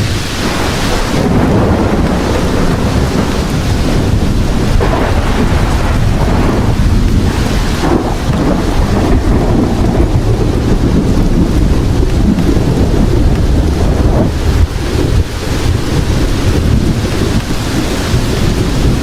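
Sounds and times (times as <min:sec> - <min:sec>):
heavy rain: 0:00.0 - 0:19.0
low rumble of thunder: 0:00.0 - 0:19.0.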